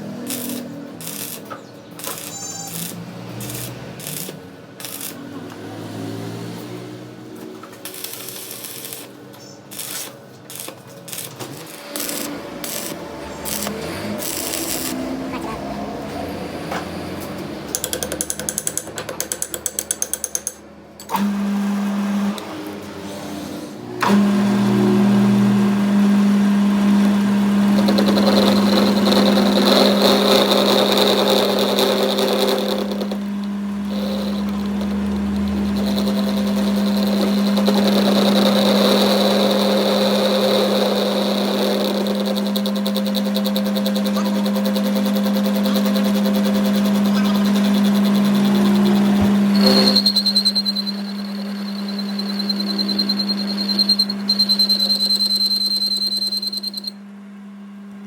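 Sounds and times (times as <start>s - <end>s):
machine motor humming: 0.0s - 19.3s, 21.1s - 55.8s.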